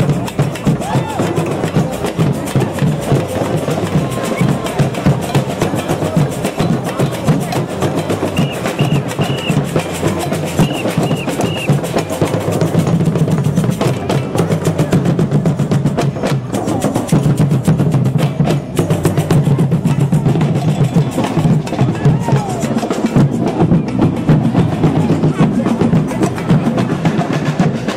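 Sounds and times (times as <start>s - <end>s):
hand drums and percussion: 0.0s - 27.9s
lively band music: 0.0s - 27.9s.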